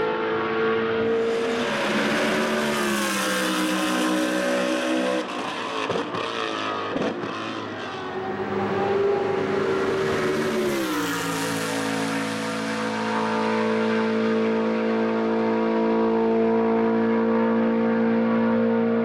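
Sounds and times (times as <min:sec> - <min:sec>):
race car engine passing by: 0:00.0 - 0:19.0.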